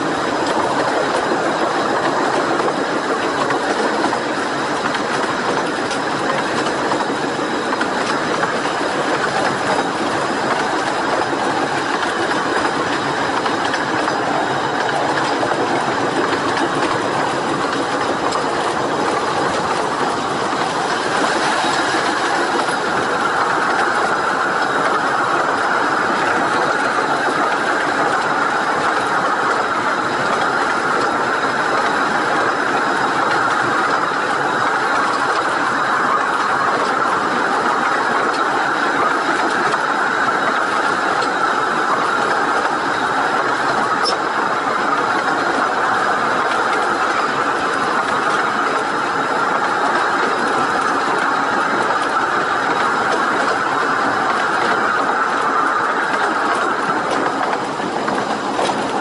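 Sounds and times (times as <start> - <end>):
train wheels rattling on track: 0.0 - 59.0.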